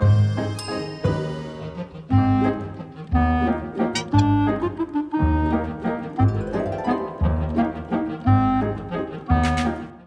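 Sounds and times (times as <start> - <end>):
jazzy instrumental music: 0.0 - 10.0.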